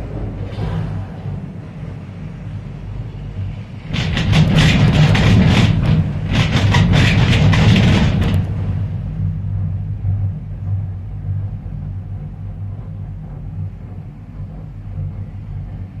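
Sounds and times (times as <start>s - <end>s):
gondola low hum: 0.0s - 16.0s
rapid clattering and rumbling: 0.0s - 16.0s.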